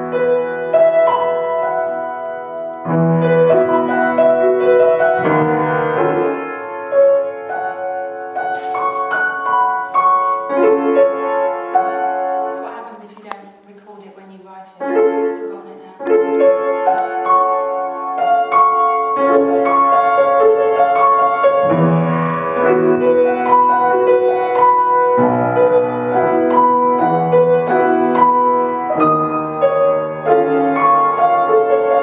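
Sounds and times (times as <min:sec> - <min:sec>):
piano playing: 0:00.0 - 0:32.0.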